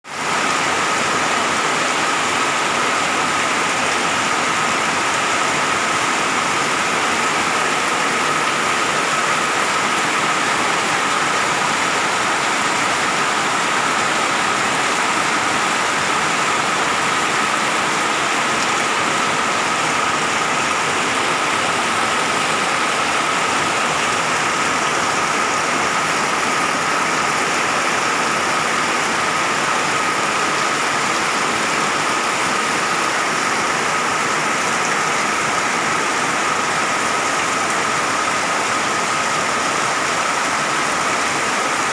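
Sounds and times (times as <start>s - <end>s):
steady rain falling: 0.1s - 41.9s.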